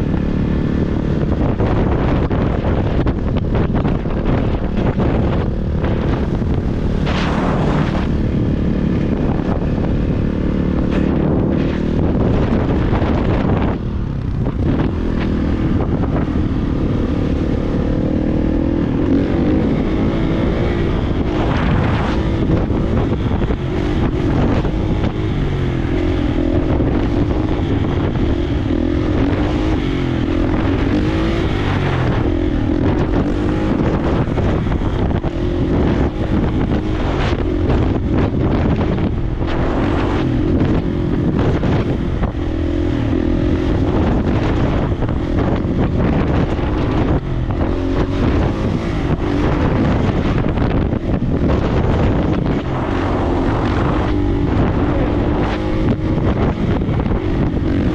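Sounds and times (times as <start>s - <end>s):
dirt bike engine revving: 0.0s - 57.9s
wind buffeting microphone: 0.0s - 57.9s.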